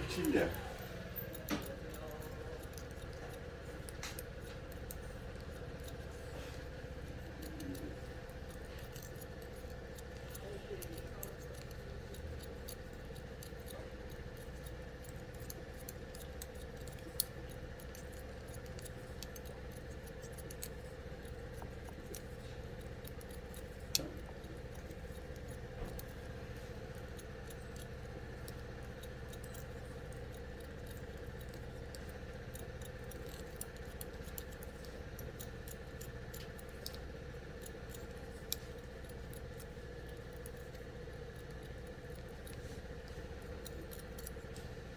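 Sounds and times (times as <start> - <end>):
scissors clicking and snipping: 0.0 - 44.9
steady low hum: 0.0 - 44.9.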